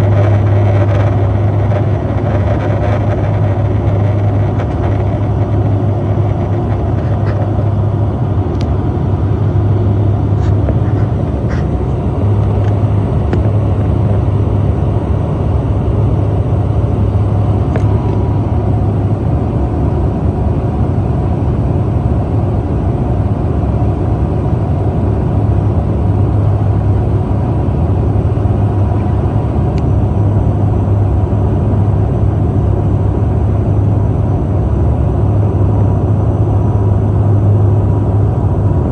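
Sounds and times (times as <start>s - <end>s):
faint steady whine: 0.0s - 38.9s
propeller engine drone: 0.0s - 38.9s.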